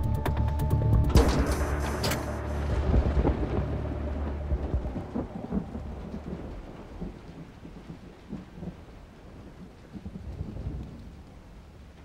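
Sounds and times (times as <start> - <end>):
thunder rumbling: 1.0 - 12.0
steady rain: 1.5 - 12.0.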